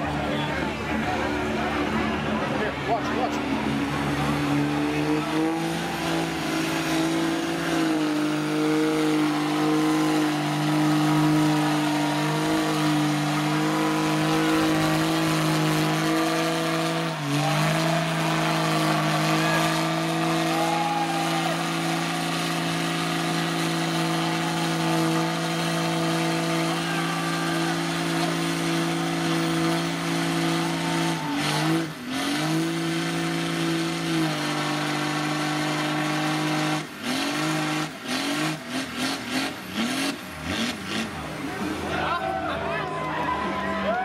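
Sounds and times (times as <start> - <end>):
tires churning through mud: 0.0 - 44.0
truck engine at high revs: 0.0 - 44.0.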